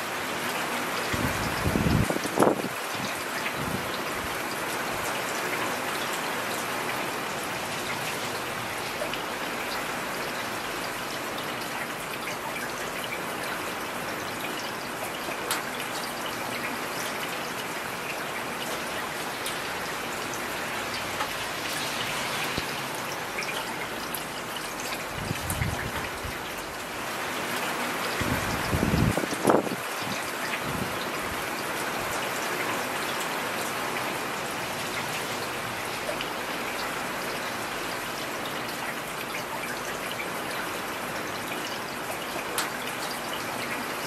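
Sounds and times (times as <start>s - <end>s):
heavy rain falling: 0.0s - 44.0s
raindrops clicking close by: 0.4s - 44.0s.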